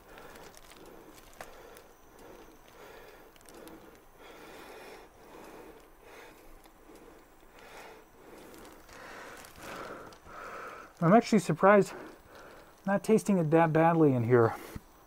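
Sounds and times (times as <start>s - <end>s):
muffled breathing through mask: 0.0s - 12.8s, 14.4s - 15.0s.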